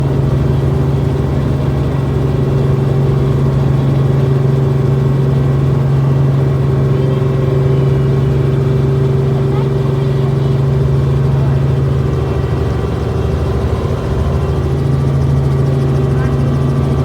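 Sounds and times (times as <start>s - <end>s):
helicopter drone: 0.0s - 17.0s.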